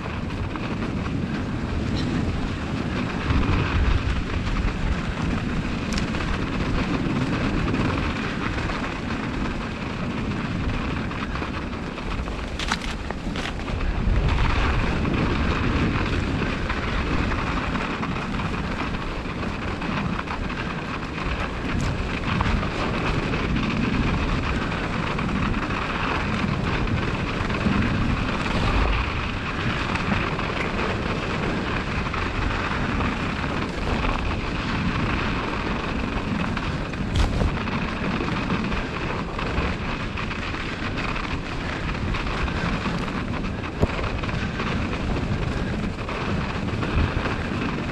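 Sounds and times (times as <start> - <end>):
bicycle tyres hissing on snow: 0.0 - 47.9
wind rumbling on microphone: 0.0 - 47.9.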